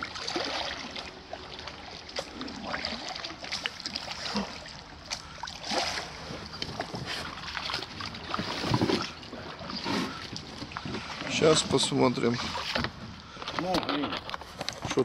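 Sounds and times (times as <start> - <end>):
oar splashing in water: 0.0 - 13.8.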